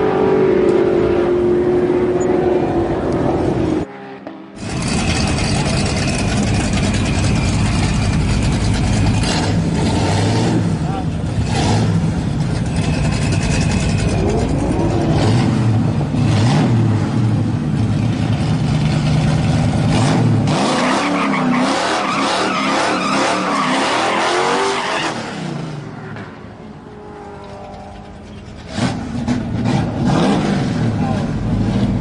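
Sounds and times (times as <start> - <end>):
vehicle engines revving: 0.0 - 32.0.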